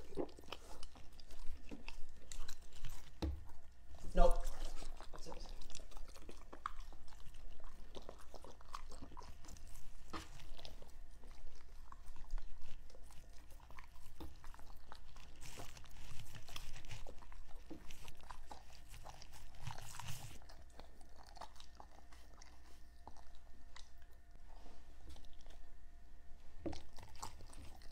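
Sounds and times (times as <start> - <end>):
dog licking and chewing: 0.0 - 27.9.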